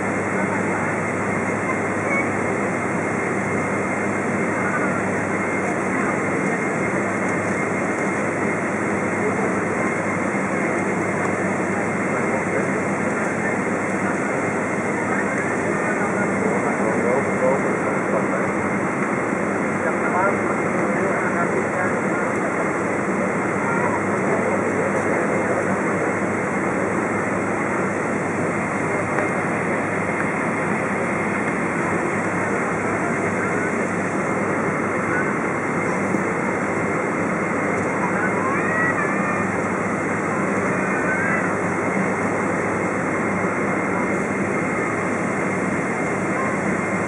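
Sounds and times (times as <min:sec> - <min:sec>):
high engine whine: 0:00.0 - 0:47.0
jet engine roaring at takeoff: 0:00.0 - 0:47.0.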